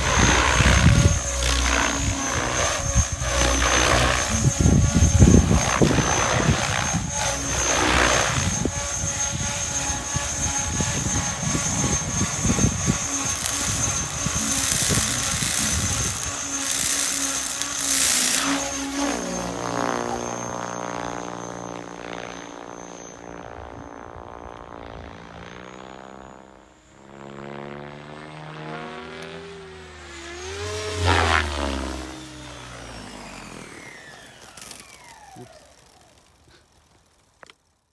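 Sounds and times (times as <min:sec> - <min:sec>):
rc helicopter winding down: 0:00.0 - 0:37.9.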